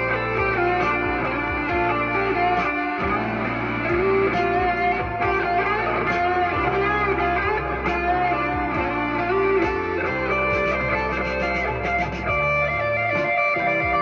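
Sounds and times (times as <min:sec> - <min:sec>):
electric guitar notes and chords: 0:00.0 - 0:14.0.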